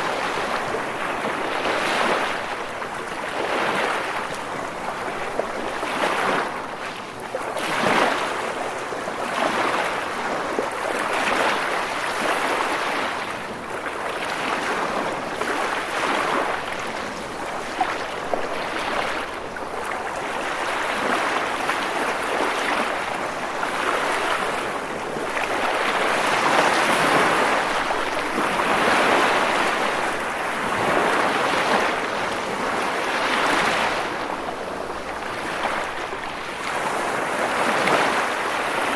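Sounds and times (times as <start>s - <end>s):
sea waves breaking against rocks: 0.0s - 38.9s.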